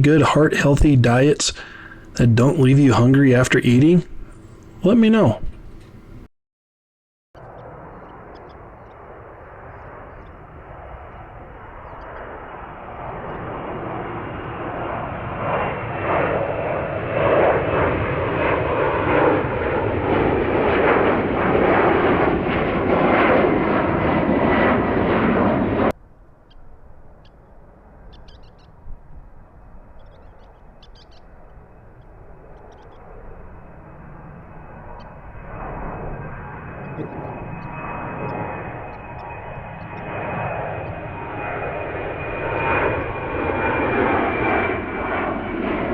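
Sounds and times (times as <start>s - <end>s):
jet engine roar with whine: 0.0s - 6.3s, 7.4s - 45.9s
quiet steady jet engine: 0.0s - 6.3s, 7.4s - 45.9s.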